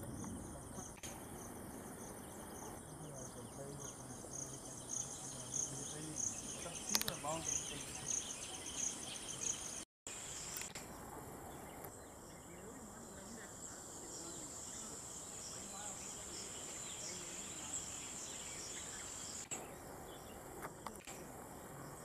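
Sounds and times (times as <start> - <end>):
insect drone: 0.0 - 22.0
pulsing insect chirp: 0.0 - 22.0.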